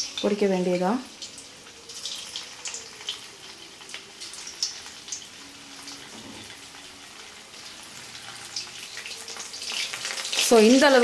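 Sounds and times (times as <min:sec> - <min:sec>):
batter deep-frying in hot oil: 0:00.0 - 0:11.0.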